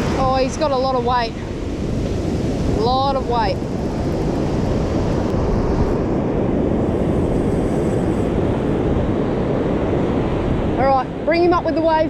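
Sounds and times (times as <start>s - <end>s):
heavy surf breaking: 0.0s - 12.0s
wind buffeting microphone: 0.0s - 12.0s.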